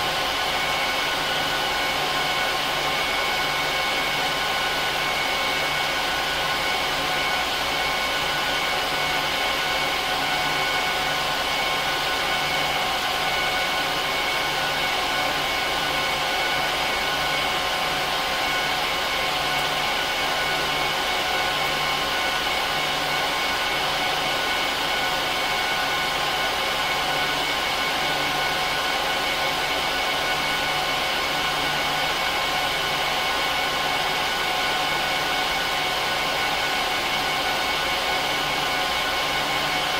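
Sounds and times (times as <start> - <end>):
server cooling fans running loudly: 0.0 - 39.9.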